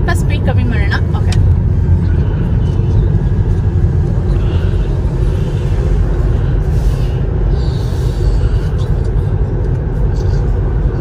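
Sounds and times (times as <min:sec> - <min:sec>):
road and tyre noise: 0:00.0 - 0:11.0.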